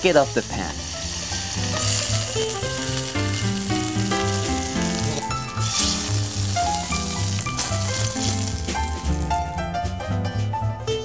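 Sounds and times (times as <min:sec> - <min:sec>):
fish sizzling in a pan: 0:00.0 - 0:09.6.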